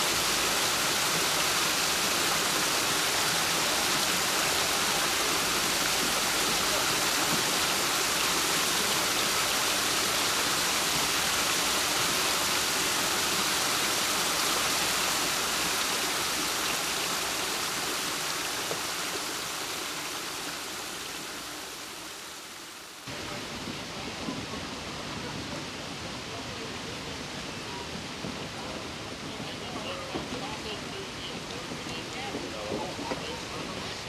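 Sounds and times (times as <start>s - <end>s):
water rushing through sluices: 0.0s - 34.0s.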